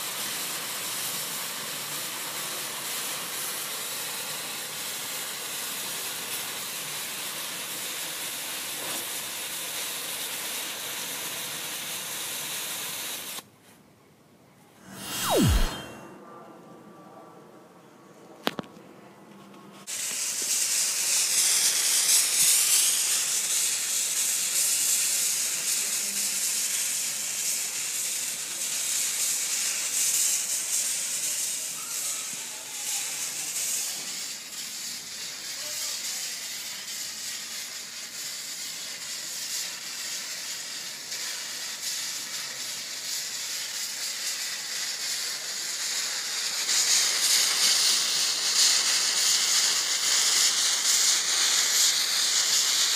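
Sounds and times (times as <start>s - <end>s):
fuse burning with hiss: 0.0s - 13.4s, 19.8s - 52.9s.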